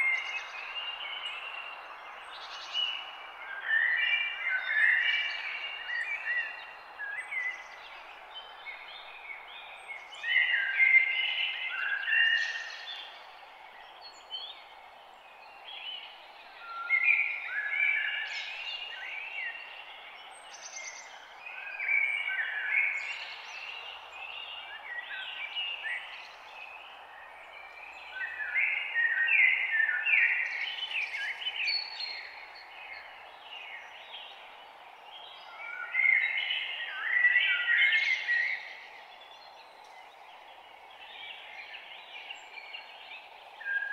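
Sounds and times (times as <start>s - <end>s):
faint steady background hiss: 0.0s - 43.9s
songbirds singing: 0.0s - 43.9s.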